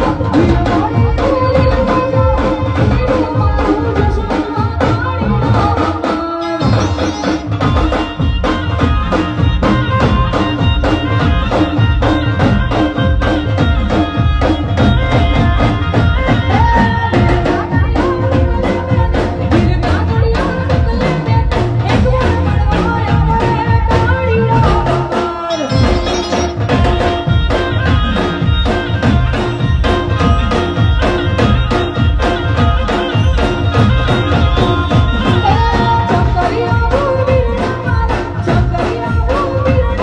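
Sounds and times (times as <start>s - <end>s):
fast drum beat: 0.0s - 40.0s
folk music over sound system: 0.0s - 40.0s.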